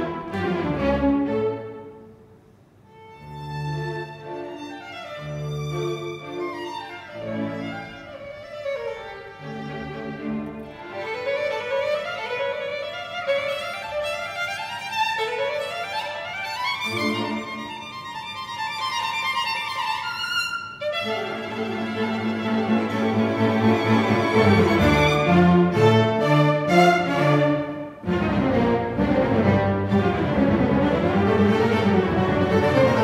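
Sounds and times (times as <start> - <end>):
orchestra playing classical music: 0.0 - 33.0
violins playing rising runs: 2.9 - 33.0.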